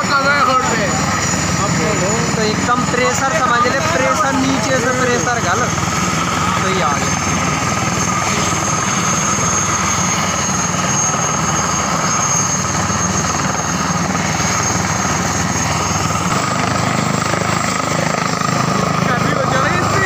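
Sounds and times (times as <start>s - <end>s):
helicopter rotor thrum: 0.0s - 20.0s
helicopter turbine whine: 0.0s - 20.0s.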